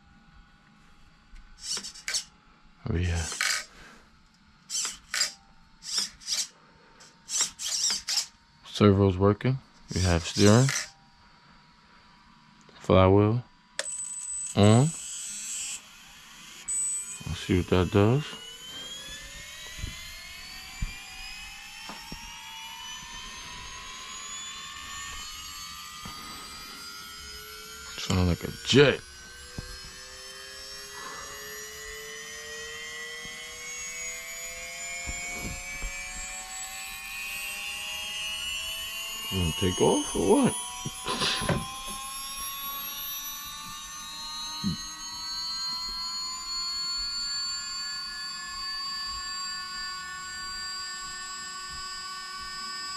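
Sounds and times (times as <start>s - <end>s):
electric flywheel whine rising: 0.0s - 12.7s, 13.5s - 52.9s.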